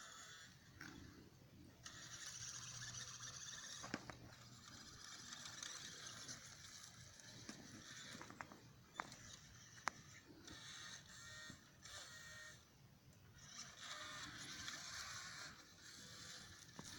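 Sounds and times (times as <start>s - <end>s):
model truck electric motor whine: 0.0s - 16.9s.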